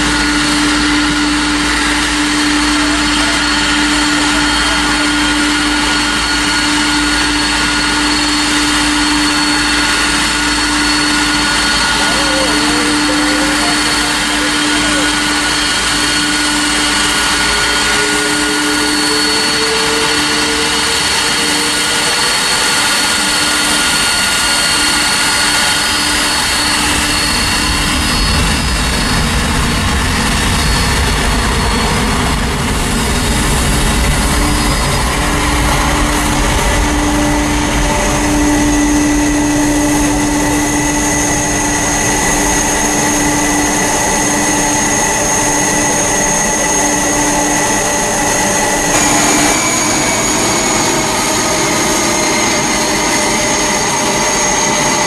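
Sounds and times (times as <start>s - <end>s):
jet engine rumble: 0.0s - 55.0s
jet engines whining: 0.0s - 55.0s.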